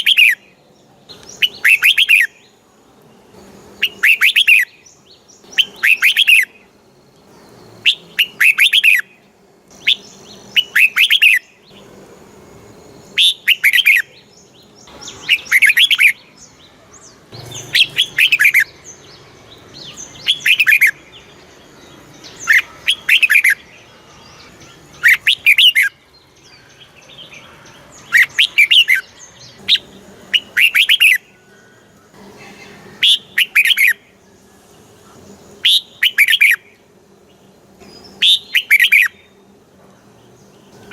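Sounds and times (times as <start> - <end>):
bird warbling song: 0.0 - 2.6, 3.3 - 12.0, 13.0 - 40.9.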